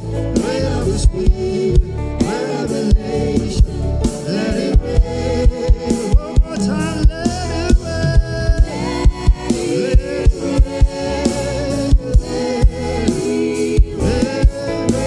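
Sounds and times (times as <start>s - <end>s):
singing: 0.0s - 15.0s
steady drum beat: 0.0s - 15.0s
sustained keyboard chords: 0.0s - 15.0s.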